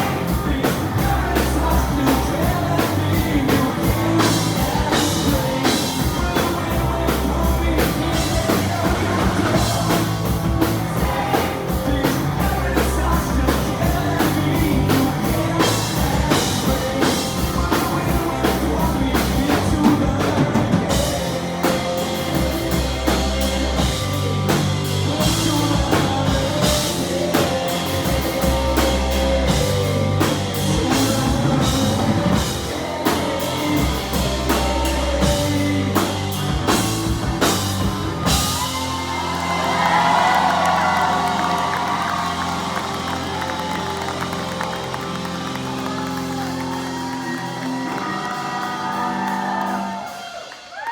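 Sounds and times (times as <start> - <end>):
pulsing bass line: 0.0 - 47.2
drum kit: 0.0 - 50.9
guitar: 0.0 - 50.9
person singing: 0.0 - 50.9.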